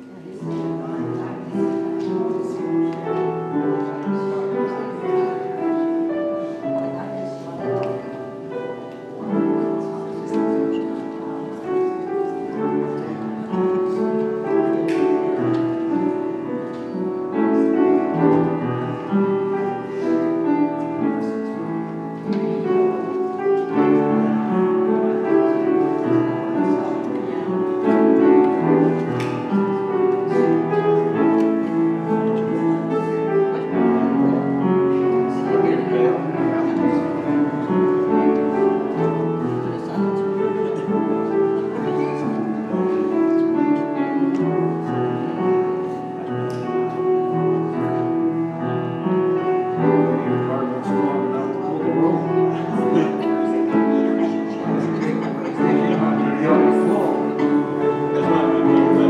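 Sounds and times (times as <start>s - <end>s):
slow classical piano: 0.0s - 59.0s.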